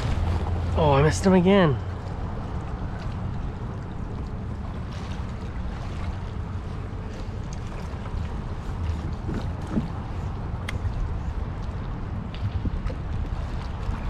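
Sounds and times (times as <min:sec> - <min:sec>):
water lapping around a kayak: 0:00.0 - 0:14.0
wind rumble on microphone: 0:00.0 - 0:14.0.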